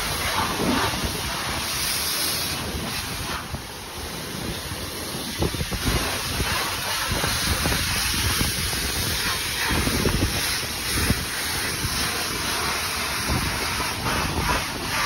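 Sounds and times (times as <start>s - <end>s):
high-pressure water spray hissing: 0.0s - 15.0s
wind buffeting microphone: 0.0s - 15.0s.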